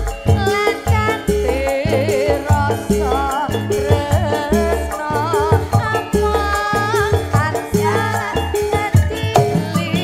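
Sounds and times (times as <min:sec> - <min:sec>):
band playing: 0:00.0 - 0:10.0.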